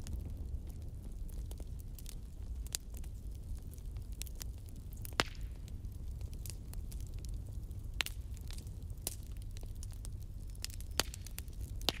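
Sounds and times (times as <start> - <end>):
bonfire crackling and popping: 0.0 - 12.0
low rumble of flames: 0.0 - 12.0.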